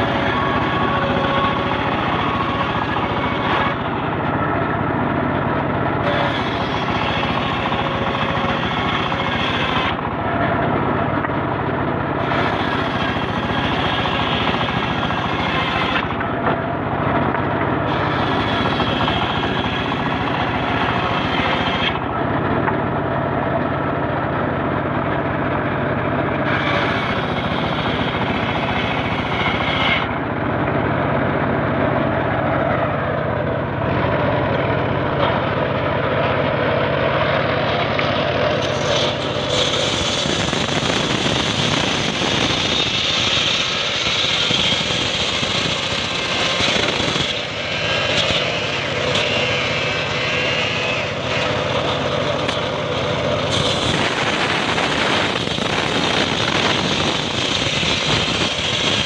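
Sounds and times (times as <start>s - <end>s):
circular saw blade cutting wood: 0.0s - 24.0s, 26.2s - 30.4s, 31.1s - 59.0s.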